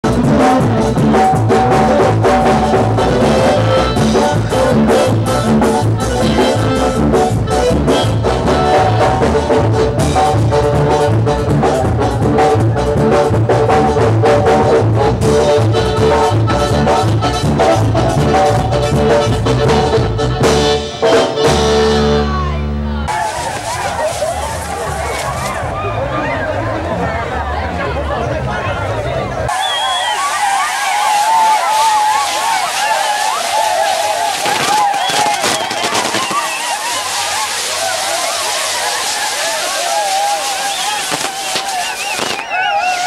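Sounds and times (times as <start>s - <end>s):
dance band playing upbeat music: 0.0s - 25.6s, 29.5s - 43.0s.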